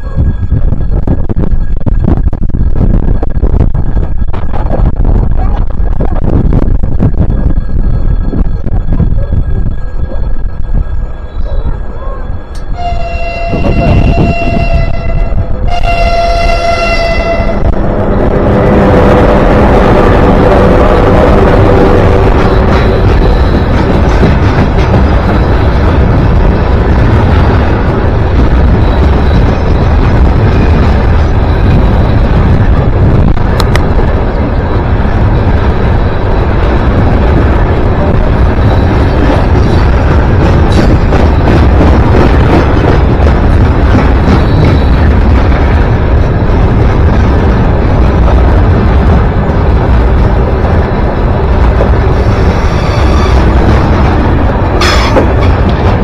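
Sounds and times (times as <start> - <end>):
train passing rumble: 0.0 - 56.0.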